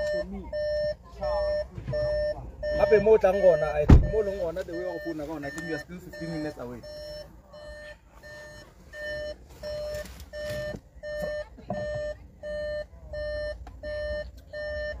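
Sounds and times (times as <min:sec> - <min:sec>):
car warning chime beeping: 0:00.0 - 0:15.0.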